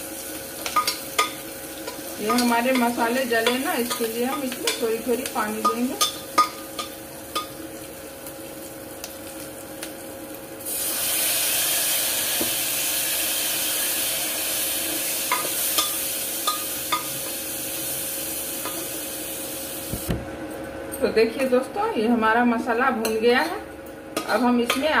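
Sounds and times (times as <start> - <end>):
masala frying in oil: 0.0 - 20.1
water sizzling in hot pan: 0.0 - 20.1.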